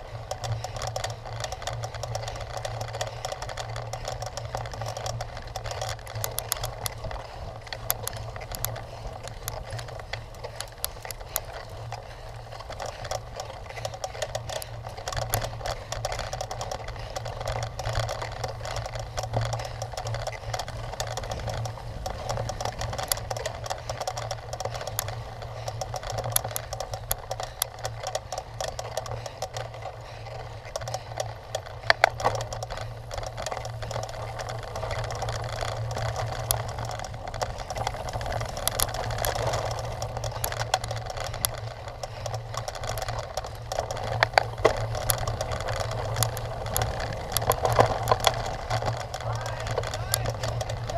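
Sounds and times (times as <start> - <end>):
bike clattering: 0.0 - 50.9
bike rattling and clicking: 0.0 - 50.9.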